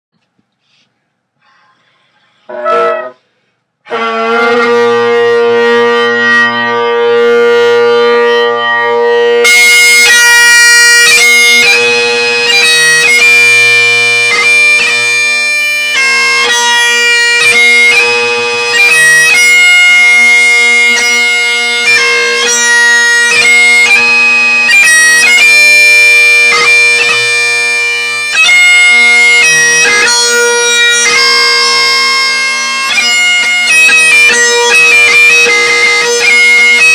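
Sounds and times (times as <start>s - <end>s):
bagpipe drones: 1.6s - 36.9s
bagpipe chanter playing a tune: 1.8s - 3.2s, 3.8s - 36.9s.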